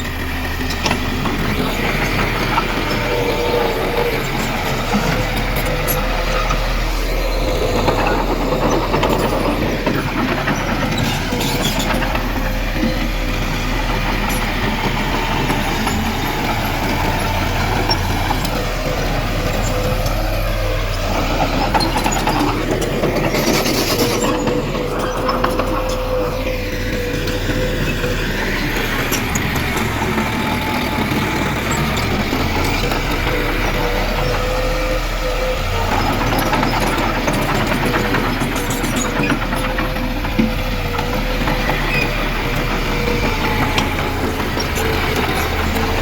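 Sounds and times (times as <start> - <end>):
heavy diesel machinery running: 0.0 - 46.0
steady machine whine: 0.0 - 46.0.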